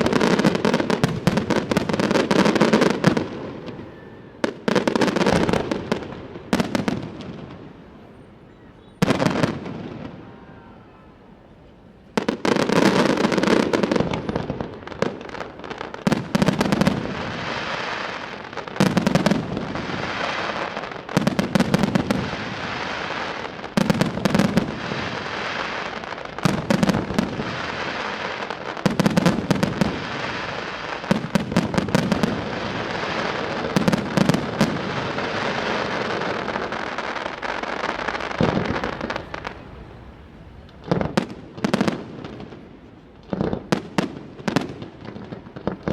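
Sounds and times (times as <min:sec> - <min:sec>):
firework bursts booming: 0:00.0 - 0:07.8, 0:12.2 - 0:45.9
fireworks crackling and popping: 0:00.0 - 0:07.8, 0:12.0 - 0:45.9.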